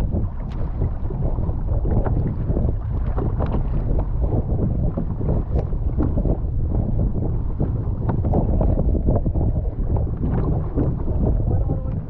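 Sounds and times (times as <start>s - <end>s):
choppy water splashing: 0.0s - 12.0s
wind buffeting microphone: 0.0s - 12.0s.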